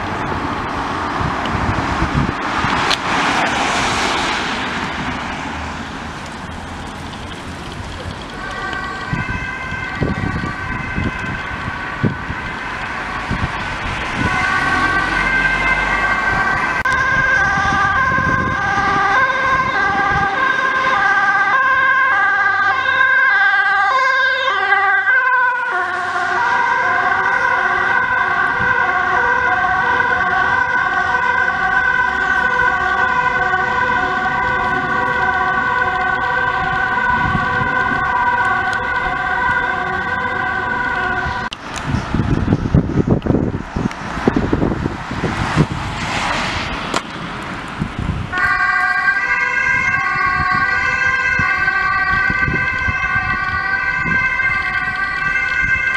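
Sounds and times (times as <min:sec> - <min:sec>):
two-tone ambulance siren: 0:00.0 - 0:46.0, 0:47.8 - 0:55.9
engine and traffic noise: 0:00.0 - 0:55.9.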